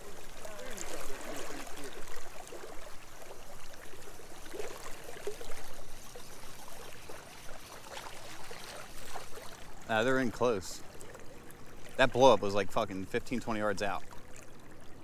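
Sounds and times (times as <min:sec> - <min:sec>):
fast water current rushing: 0:00.0 - 0:13.1.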